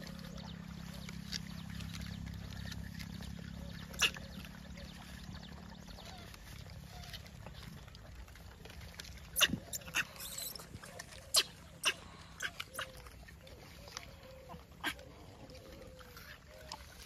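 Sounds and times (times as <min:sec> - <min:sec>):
monkeys crunching apples: 0:00.0 - 0:17.0.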